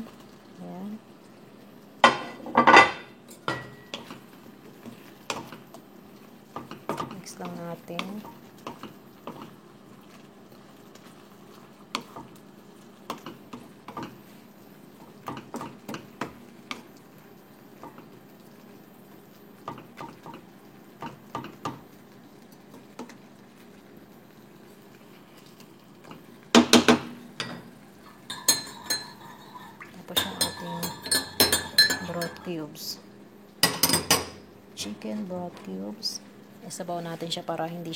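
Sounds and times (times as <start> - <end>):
sauce simmering: 0.0 - 2.1, 3.1 - 32.1.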